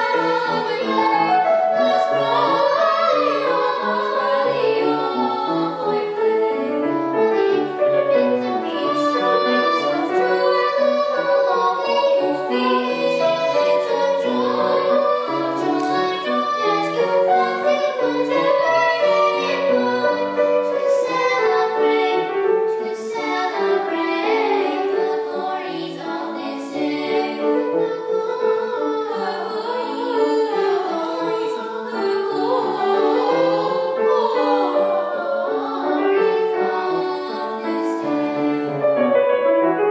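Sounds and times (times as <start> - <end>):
girls singing: 0.0 - 38.9
musical accompaniment: 0.0 - 39.9.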